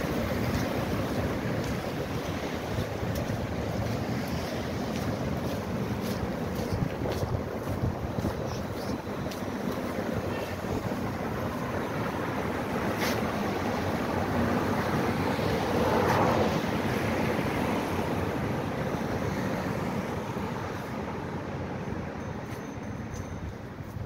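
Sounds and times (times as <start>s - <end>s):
passing cars: 0.0s - 24.0s.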